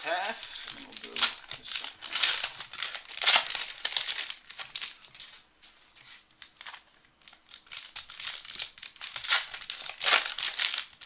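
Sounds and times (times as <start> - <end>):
wrappers tearing and crinkling: 0.0 - 5.4, 6.0 - 11.0.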